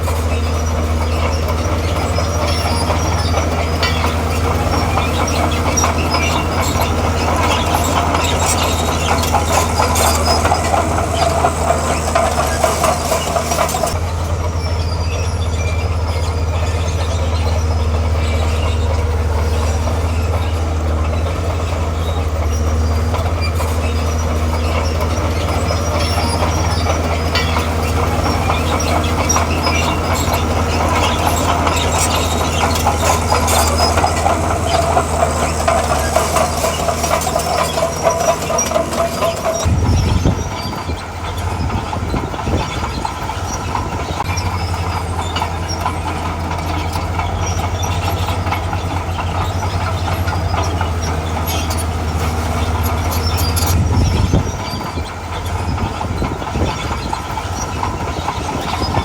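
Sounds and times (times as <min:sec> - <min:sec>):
bulldozer diesel engine running: 0:00.0 - 0:59.0
steel tracks clanking and squealing: 0:00.0 - 0:59.0.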